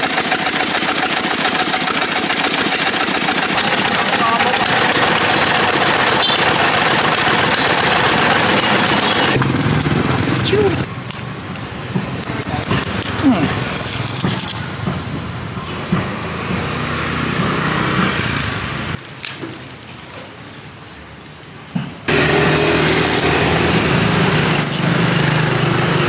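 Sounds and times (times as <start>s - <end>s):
vehicle engines running: 0.0s - 26.0s.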